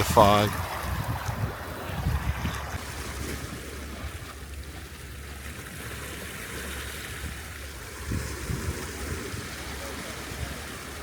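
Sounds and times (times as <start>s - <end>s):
coastal surf: 0.0s - 11.0s
wind rumbling on microphone: 0.0s - 11.0s.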